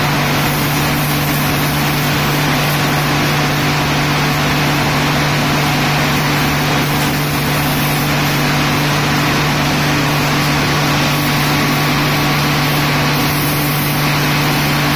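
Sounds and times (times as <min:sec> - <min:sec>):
low machine hum: 0:00.0 - 0:14.9
water jet spraying: 0:00.0 - 0:14.9.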